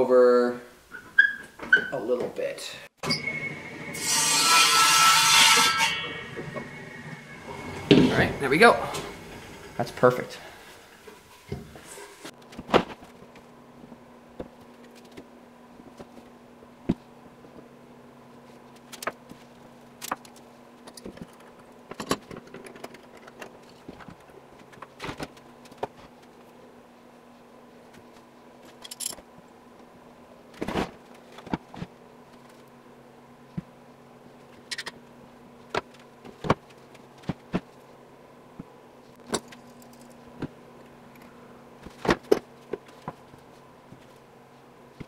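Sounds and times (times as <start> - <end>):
steady low hum: 5.9 - 45.0.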